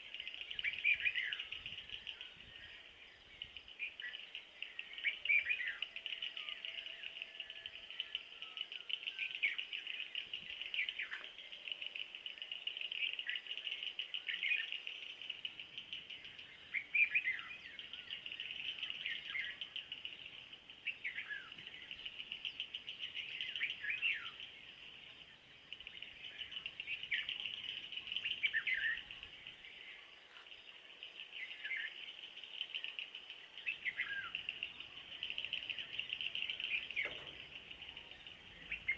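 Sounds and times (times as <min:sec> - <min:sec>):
birds singing falling whistles: 0:00.0 - 0:11.6, 0:12.4 - 0:30.0, 0:31.4 - 0:38.9
high-pitched insect chorus: 0:00.0 - 0:38.9.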